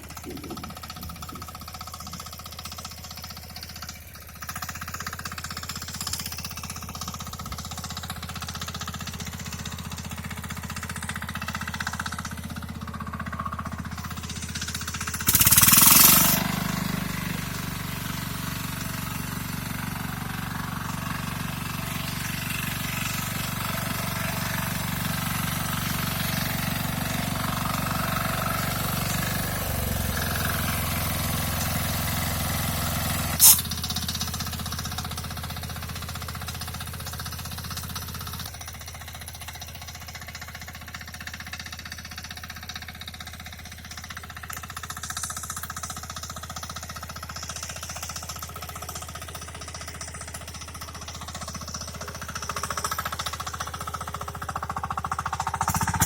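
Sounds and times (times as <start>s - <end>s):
power tiller engine running: 0.0s - 56.0s.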